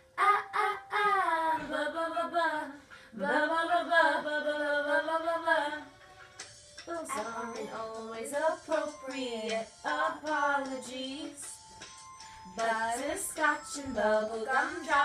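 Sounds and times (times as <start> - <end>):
women singing: 0.2 - 5.9, 6.9 - 11.6, 12.4 - 15.0.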